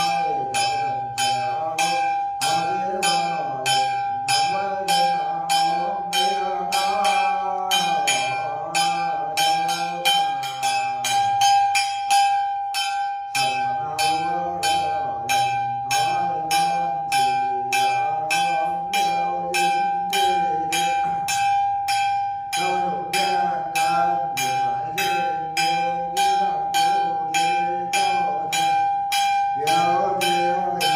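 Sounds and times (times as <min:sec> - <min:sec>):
hand bell ringing: 0:00.0 - 0:30.9
man chanting: 0:00.0 - 0:30.9.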